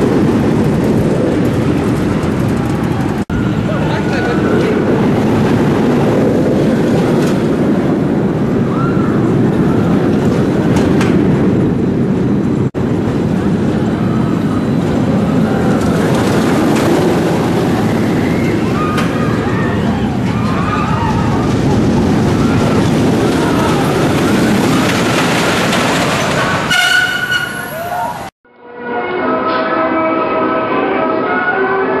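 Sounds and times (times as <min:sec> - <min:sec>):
roller coaster rumbling on track: 0:00.0 - 0:28.4.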